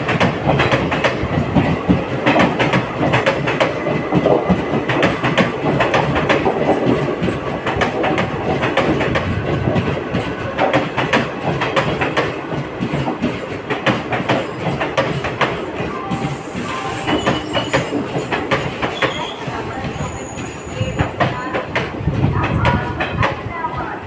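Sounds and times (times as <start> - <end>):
train wheels clattering over joints: 0.0 - 23.8
train rumble: 0.0 - 24.0.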